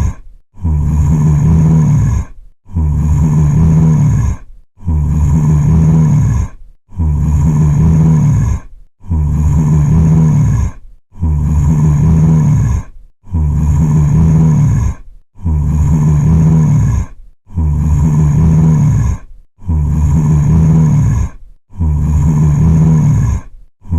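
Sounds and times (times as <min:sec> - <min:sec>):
zombie groan: 0:00.0 - 0:23.9.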